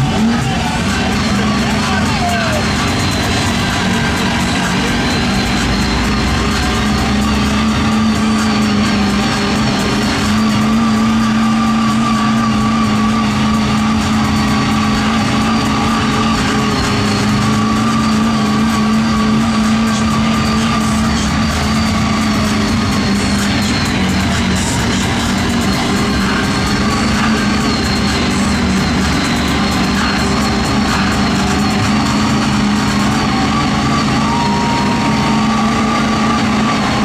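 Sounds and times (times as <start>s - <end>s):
truck engine revving high: 0.0s - 37.0s.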